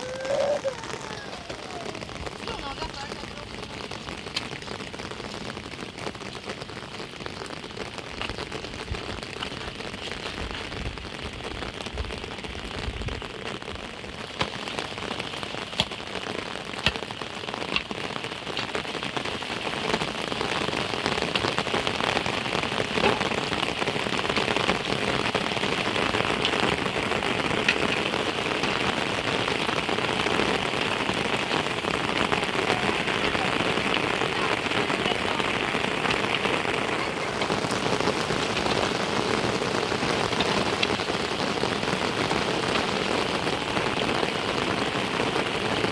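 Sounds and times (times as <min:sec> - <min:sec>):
heavy rain pattering: 0:00.0 - 0:45.9
sharp raindrop hits: 0:00.0 - 0:45.9.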